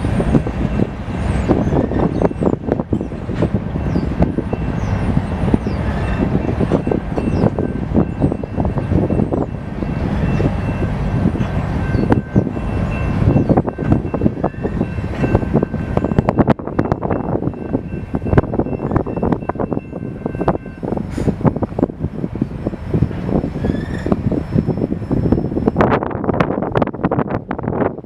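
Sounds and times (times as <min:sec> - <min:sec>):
train wheels rattling and clanking: 0:00.0 - 0:27.2.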